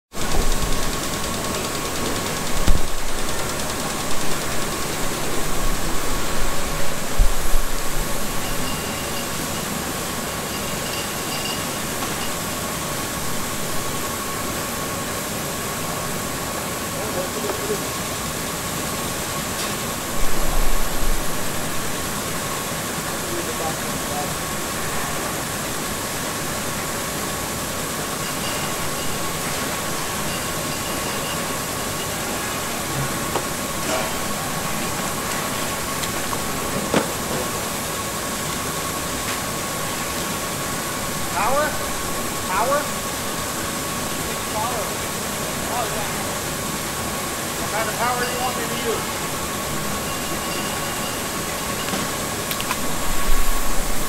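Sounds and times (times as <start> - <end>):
factory machinery hum: 0.1 - 54.0.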